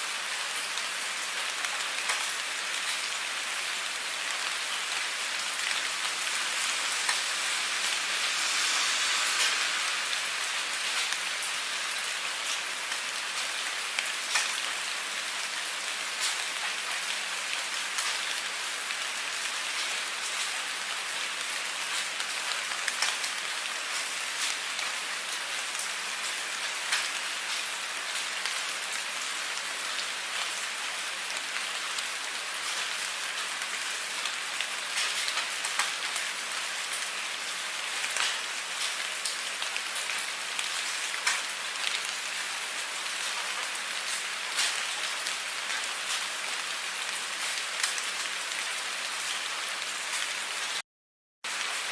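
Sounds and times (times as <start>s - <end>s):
steady rain hiss: 0.0s - 50.8s, 51.5s - 51.9s.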